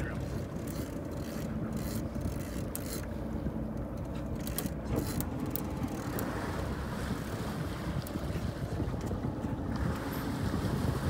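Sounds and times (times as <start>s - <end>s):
boat engine low rumble: 0.0s - 11.0s
wind on microphone: 0.0s - 11.0s.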